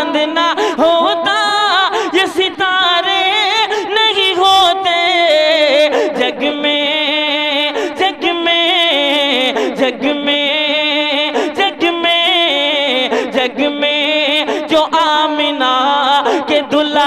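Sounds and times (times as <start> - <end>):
man singing long held notes: 0.0 - 17.0.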